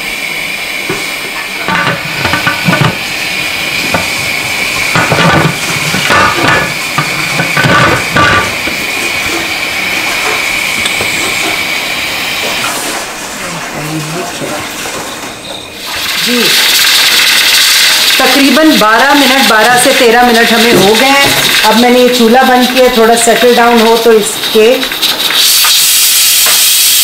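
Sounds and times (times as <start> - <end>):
pressure cooker steam hissing: 0.0 - 14.6, 15.7 - 27.0.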